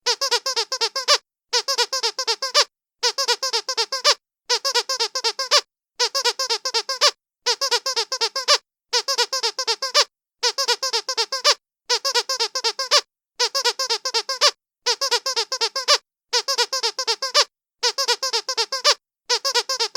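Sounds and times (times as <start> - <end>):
squeaky duck toy squeaking: 0.0 - 19.9.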